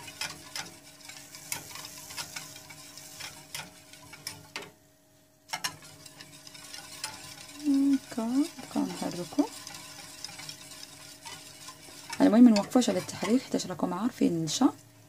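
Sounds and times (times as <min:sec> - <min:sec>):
whisk scraping metal saucepan: 0:00.0 - 0:04.8, 0:05.5 - 0:14.8.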